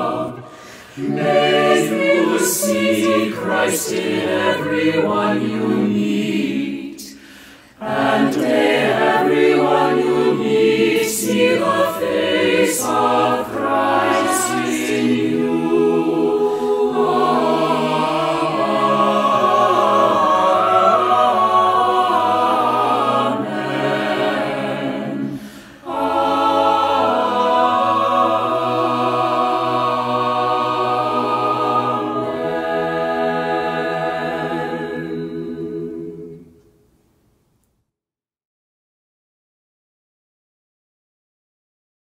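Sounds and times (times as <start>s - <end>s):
mixed choir singing a cappella: 0.0s - 36.6s.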